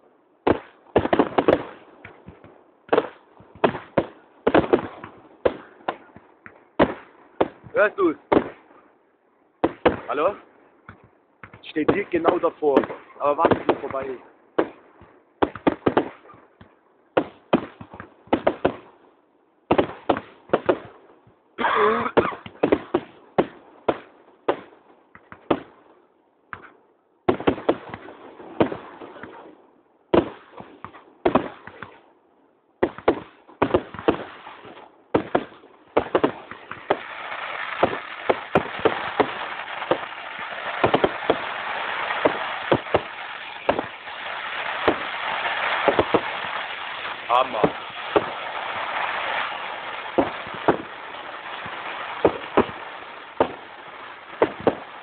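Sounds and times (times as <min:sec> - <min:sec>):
firework bursts and bangs: 0:00.4 - 0:08.9, 0:09.6 - 0:19.0, 0:19.6 - 0:32.0, 0:32.8 - 0:55.0
firework crackle: 0:00.5 - 0:08.8, 0:11.4 - 0:18.9, 0:19.7 - 0:21.0, 0:22.1 - 0:25.8, 0:27.3 - 0:29.5, 0:32.8 - 0:55.0.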